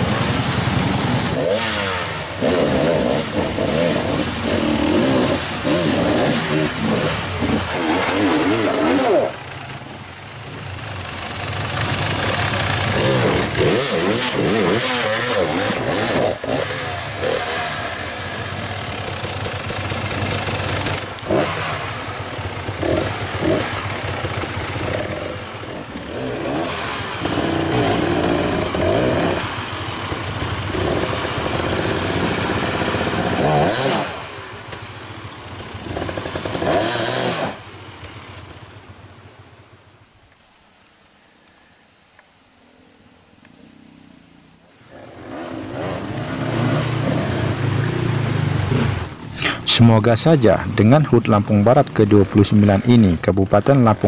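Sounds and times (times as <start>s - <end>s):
motorcycle engines revving: 0.0s - 40.0s, 43.5s - 54.0s.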